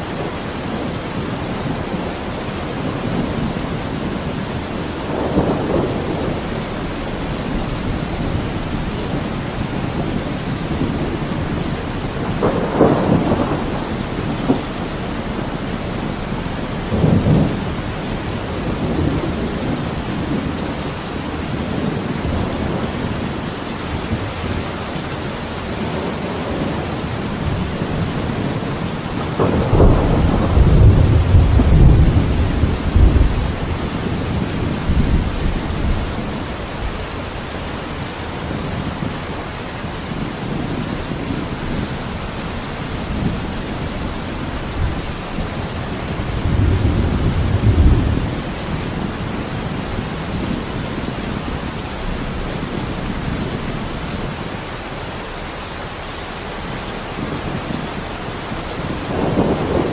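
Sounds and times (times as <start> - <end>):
heavy rain: 0.0 - 59.9
rolling thunder: 0.7 - 54.6, 56.6 - 59.9.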